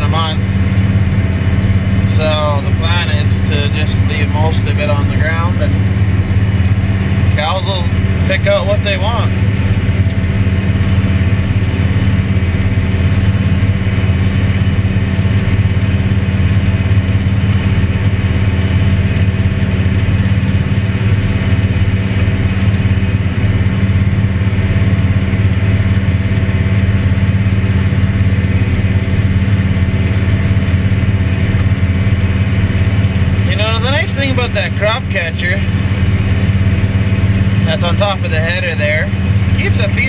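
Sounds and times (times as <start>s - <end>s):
combine machinery running: 0.0s - 40.0s
tractor engine droning: 0.0s - 40.0s.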